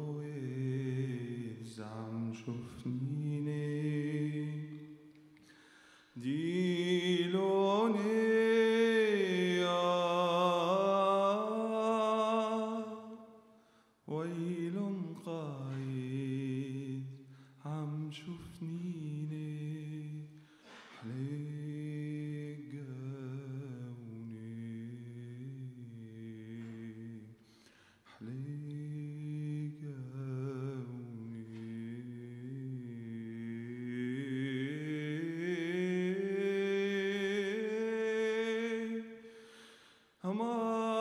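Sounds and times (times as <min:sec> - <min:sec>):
man singing unaccompanied: 0:00.0 - 0:05.1, 0:06.2 - 0:13.4, 0:14.1 - 0:27.4, 0:28.1 - 0:39.3, 0:40.2 - 0:41.0.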